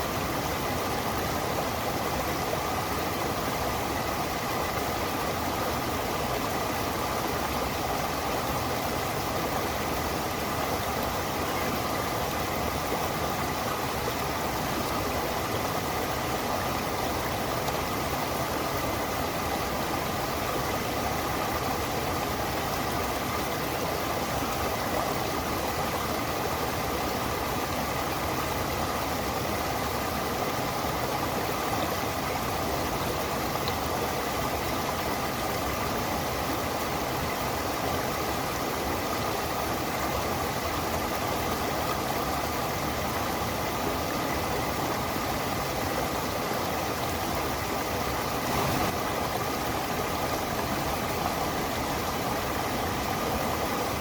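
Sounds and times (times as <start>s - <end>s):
stream water over rocks: 0.0s - 54.0s.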